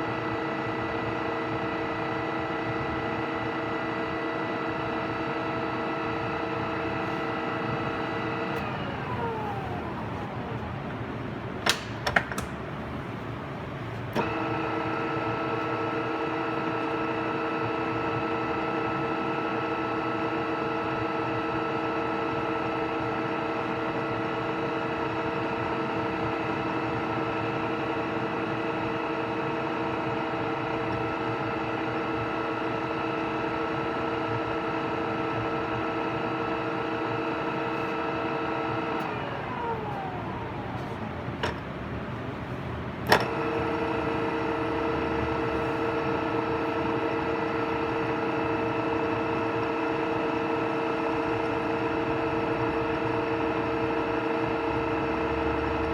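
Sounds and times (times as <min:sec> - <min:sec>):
drilling machine gear whine: 0:00.1 - 0:11.5, 0:22.4 - 0:55.9.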